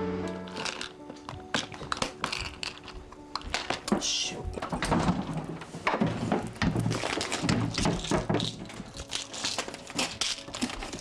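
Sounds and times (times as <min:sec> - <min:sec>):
pill bottles clicking and knocking: 0:00.4 - 0:11.0.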